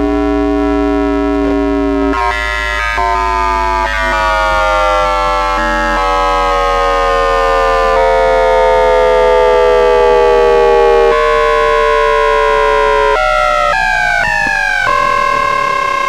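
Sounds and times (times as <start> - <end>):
steady low hum: 0.0 - 16.0
train inverter whine falling in pitch: 0.0 - 16.0.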